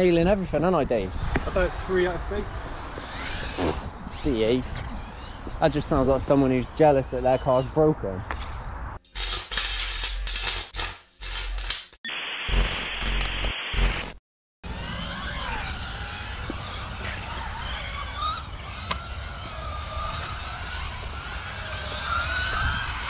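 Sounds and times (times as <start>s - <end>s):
toy car electric motors whining: 1.3s - 11.8s, 14.6s - 23.0s.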